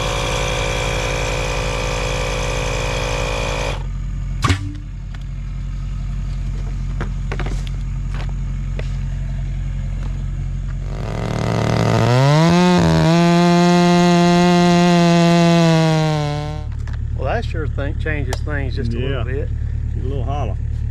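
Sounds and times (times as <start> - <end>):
engine revving with whine: 0.0 - 5.3, 6.4 - 20.9
engine running: 0.0 - 20.9.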